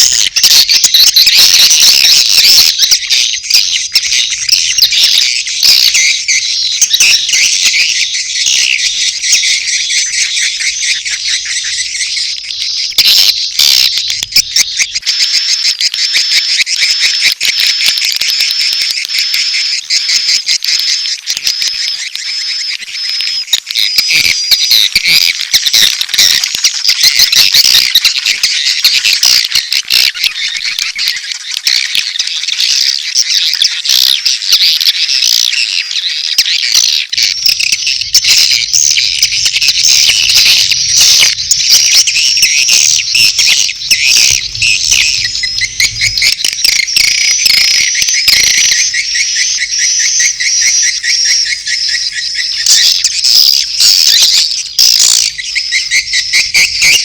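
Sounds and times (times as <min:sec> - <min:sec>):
swiftlets chattering and twittering: 0:00.0 - 0:57.0.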